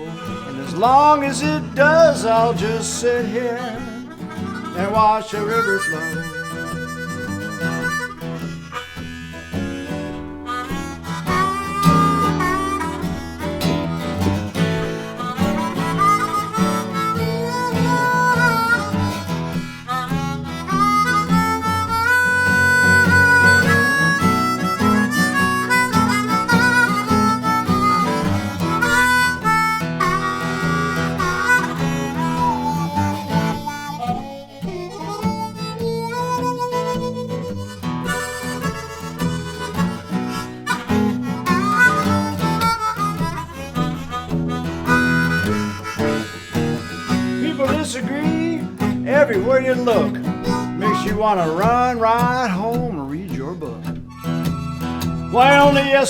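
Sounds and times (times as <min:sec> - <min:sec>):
acoustic guitar strumming: 0:00.0 - 0:56.0
harmonica solo: 0:00.0 - 0:56.0.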